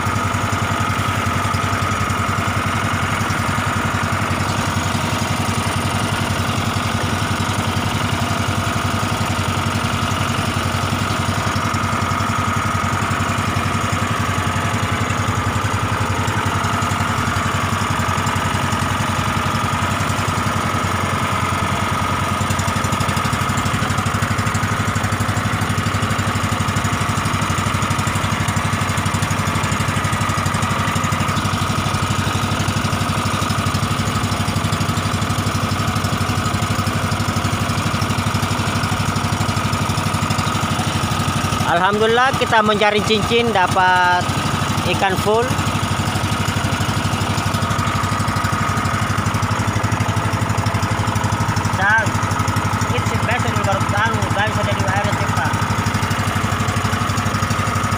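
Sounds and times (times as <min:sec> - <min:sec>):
boat engine running: 0:00.0 - 0:57.9.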